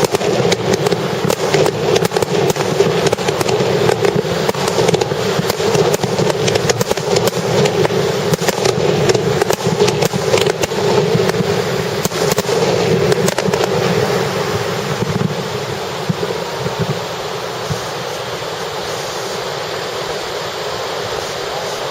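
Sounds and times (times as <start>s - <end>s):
fireworks booming and crackling: 0.0s - 21.9s.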